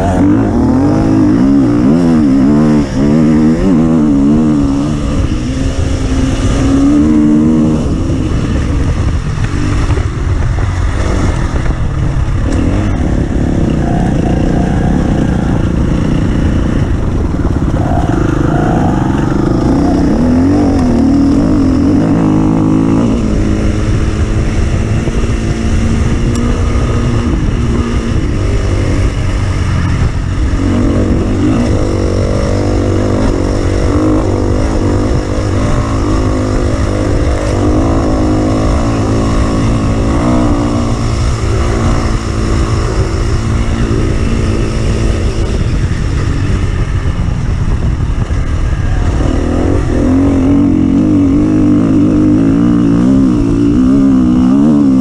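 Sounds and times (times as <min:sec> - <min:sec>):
offroad vehicle engine revving: 0:00.0 - 0:55.0.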